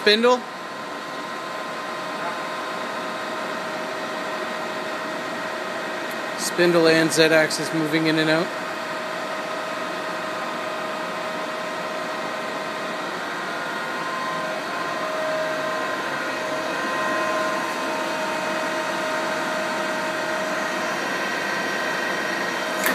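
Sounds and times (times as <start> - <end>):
boring mill humming and whining: 0.0 - 22.9.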